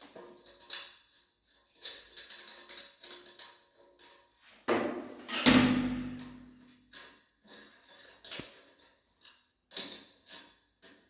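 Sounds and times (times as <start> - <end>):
metal nut clicking and scraping: 0.2 - 4.4, 6.2 - 11.0.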